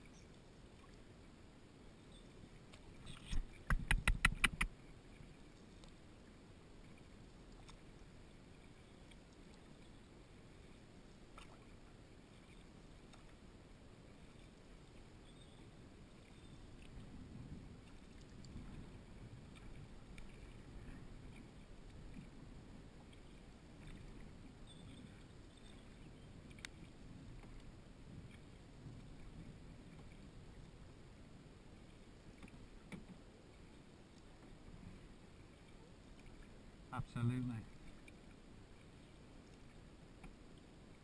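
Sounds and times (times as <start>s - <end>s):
canoe paddling on water: 0.0s - 41.0s.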